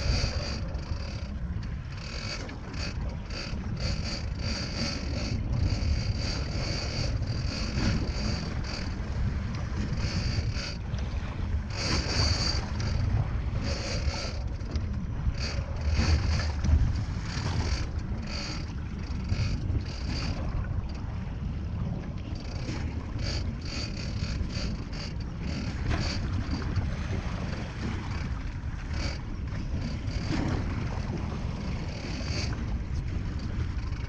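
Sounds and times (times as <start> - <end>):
fishing reel whirring: 0.0 - 21.1, 22.2 - 26.8, 27.4 - 34.0
boat motor rumble: 0.0 - 34.0
wind and sea: 0.0 - 34.0.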